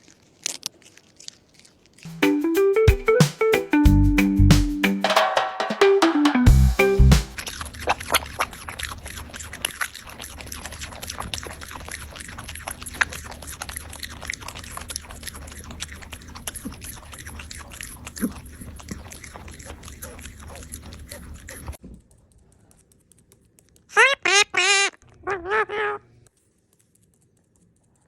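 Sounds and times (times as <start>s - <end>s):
crunchy chewing: 0.0s - 2.2s, 6.7s - 25.5s, 26.2s - 28.0s.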